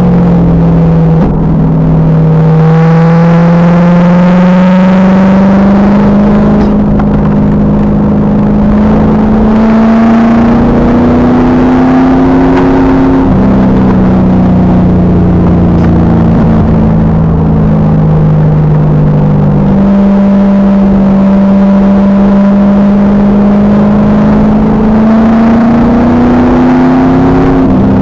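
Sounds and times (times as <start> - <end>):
car engine revving hard: 0.0 - 28.0.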